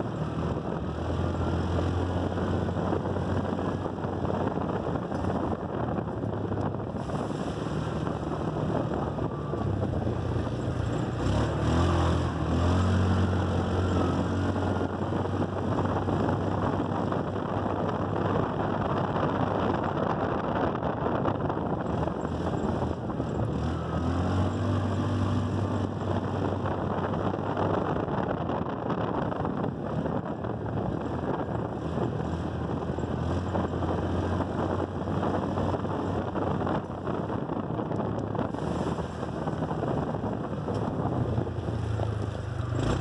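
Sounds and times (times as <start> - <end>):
single-cylinder engine running: 0.0 - 19.9, 21.5 - 43.0
wind noise: 0.0 - 43.0.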